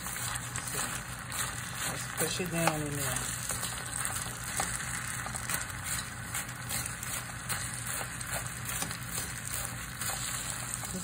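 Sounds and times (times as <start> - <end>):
fried rice sizzling in oil: 0.0 - 11.0
plastic spatula scraping and tapping: 0.2 - 10.7.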